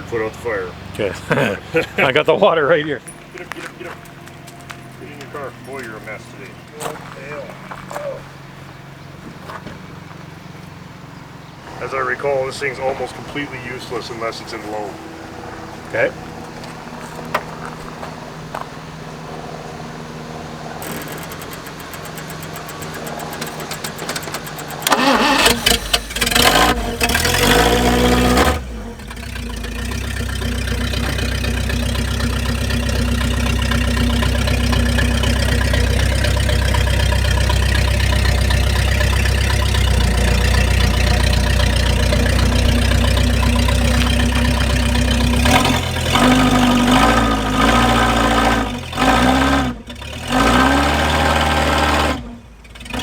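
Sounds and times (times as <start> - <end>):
car engine starting and idling: 0.0 - 53.0.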